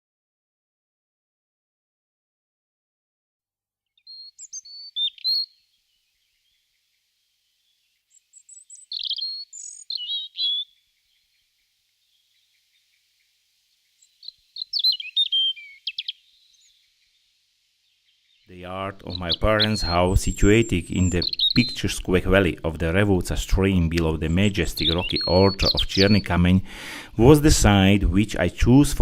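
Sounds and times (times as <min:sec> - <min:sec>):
songbird chirping: 0:03.9 - 0:29.0.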